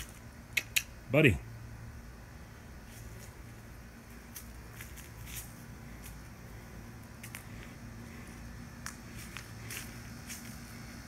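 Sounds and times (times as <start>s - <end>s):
crunching footsteps: 0.0s - 0.8s, 2.8s - 11.0s
steady low hum: 0.0s - 11.0s.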